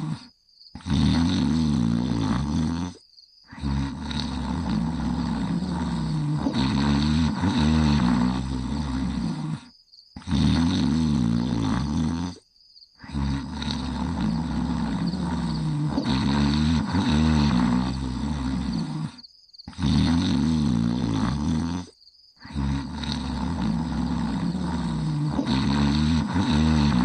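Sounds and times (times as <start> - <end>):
rattling snoring: 0.0 - 27.0.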